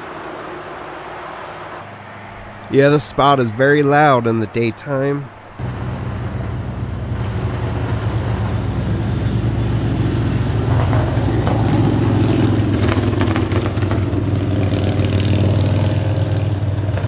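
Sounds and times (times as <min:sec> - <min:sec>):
vehicle engine low note: 0:00.0 - 0:17.0.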